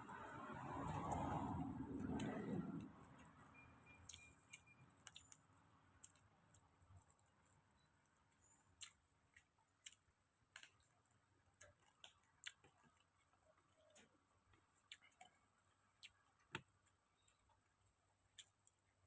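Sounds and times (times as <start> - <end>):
person chewing food: 0.5 - 19.0.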